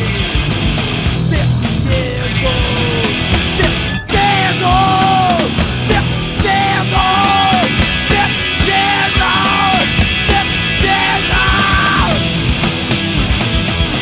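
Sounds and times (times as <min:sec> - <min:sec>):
loud hardcore punk band: 0:00.0 - 0:14.0.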